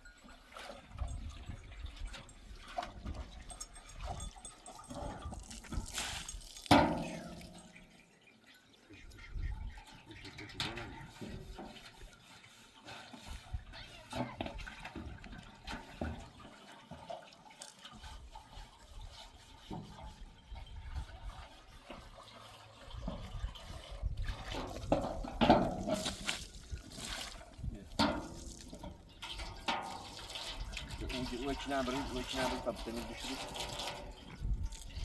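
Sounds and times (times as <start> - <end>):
water splashing and pouring: 0.0 - 8.2, 9.4 - 35.0.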